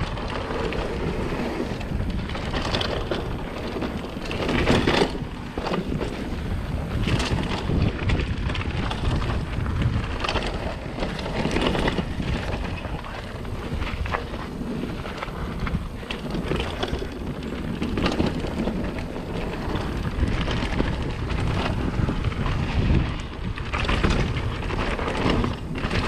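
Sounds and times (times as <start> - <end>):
bike knocks and rattles: 0.0 - 26.0
bike tyre noise: 0.0 - 26.0
wind rushing over microphone: 0.0 - 26.0.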